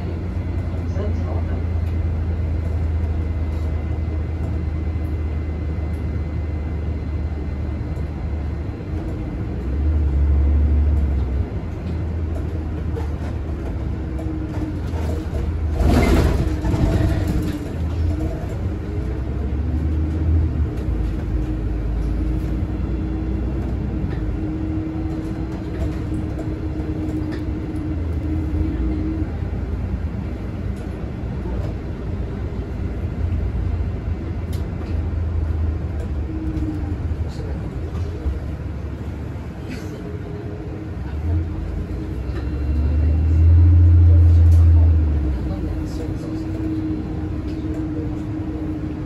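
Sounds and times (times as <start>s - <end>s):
bus engine drone: 0.0s - 49.0s
road noise: 0.0s - 49.0s.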